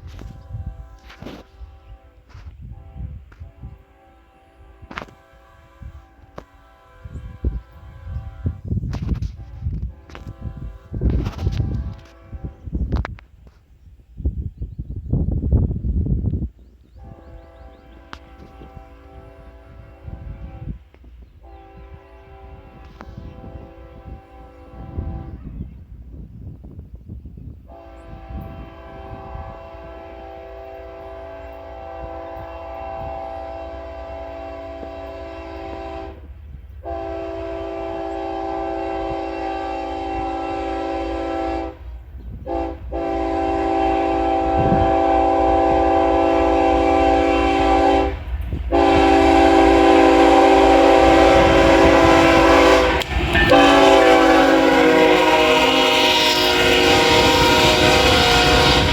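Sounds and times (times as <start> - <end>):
locomotive air horn blasts: 0.0 - 13.0, 17.0 - 25.6, 27.7 - 58.9
low train rumble: 0.0 - 58.9.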